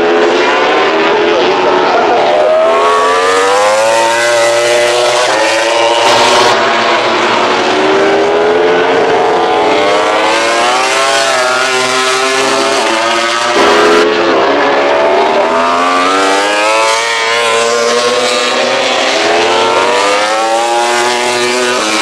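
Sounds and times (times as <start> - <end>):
racing motorcycle engines revving: 0.0 - 22.0.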